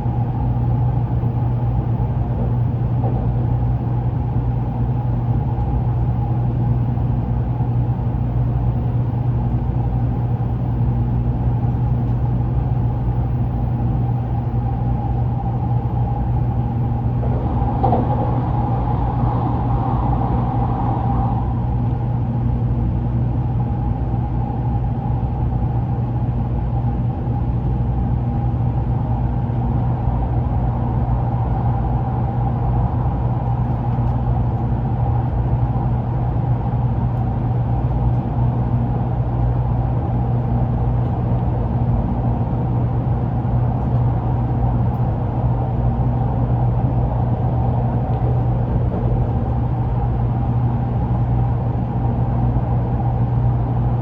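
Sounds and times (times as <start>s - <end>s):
faint steady whine: 0.0s - 54.0s
train low rumble: 0.0s - 54.0s.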